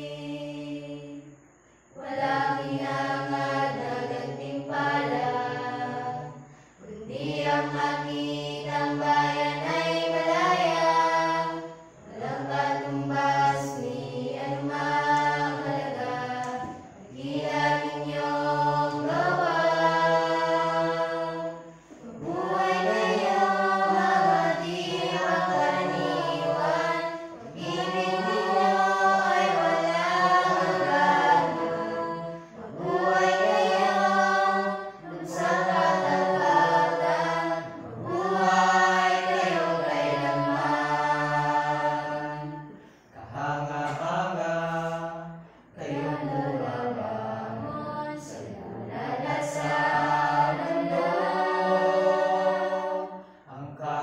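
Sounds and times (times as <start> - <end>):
mixed choir singing a cappella: 0.0 - 54.0.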